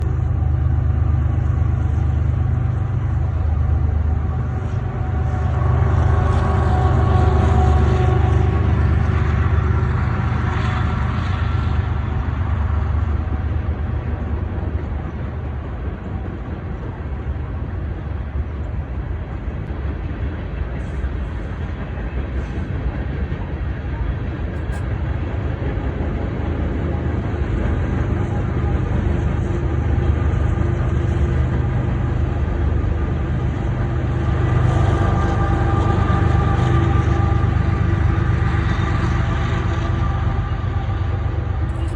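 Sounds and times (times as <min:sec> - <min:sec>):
engine hum: 0:00.0 - 0:41.9
train rumbling by: 0:00.0 - 0:41.9.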